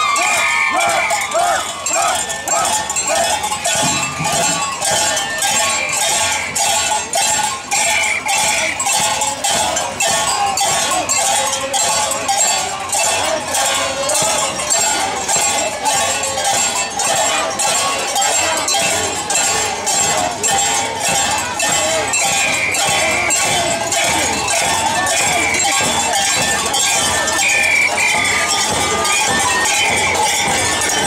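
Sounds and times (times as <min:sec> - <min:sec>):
drum strokes: 0:00.0 - 0:31.0.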